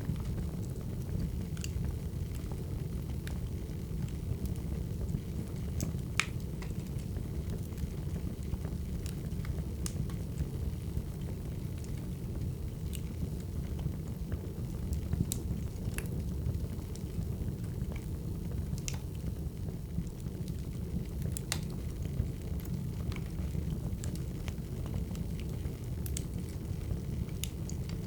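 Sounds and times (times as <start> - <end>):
firewood burning with crackles: 0.0 - 28.0.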